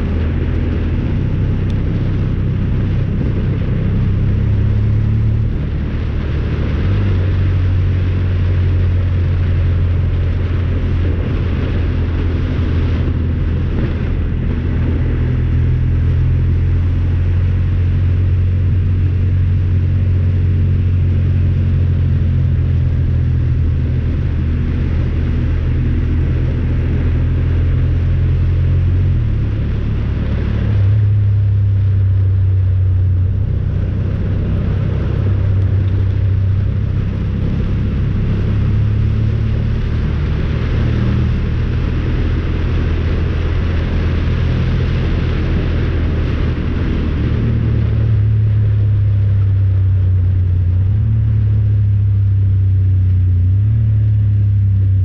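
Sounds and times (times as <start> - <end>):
steady rushing noise: 0.0 - 55.0
vehicle engine running: 0.0 - 55.0.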